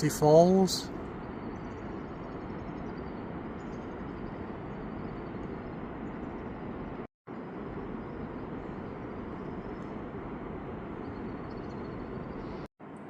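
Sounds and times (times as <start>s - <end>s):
low rushing outdoor noise: 0.0s - 13.0s.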